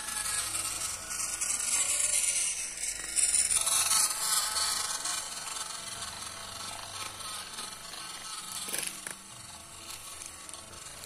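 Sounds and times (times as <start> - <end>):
toy truck electric motor rasping: 0.0 - 11.0.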